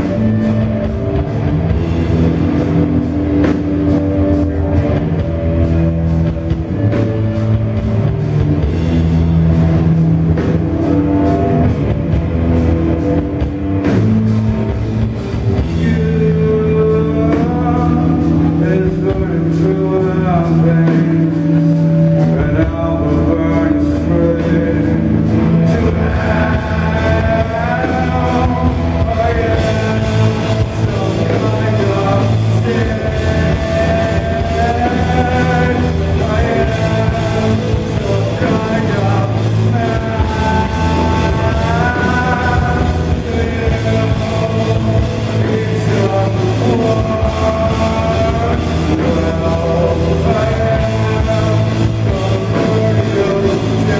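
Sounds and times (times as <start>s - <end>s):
bass guitar: 0.0s - 53.9s
drums: 0.0s - 53.9s
electric guitars: 0.0s - 53.9s.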